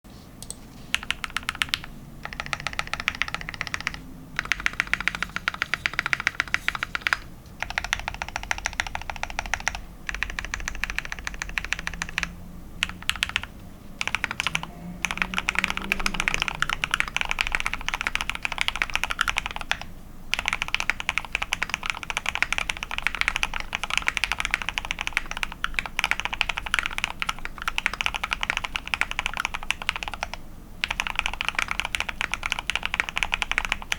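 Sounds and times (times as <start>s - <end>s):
mechanical keyboard typing: 0.4s - 33.9s.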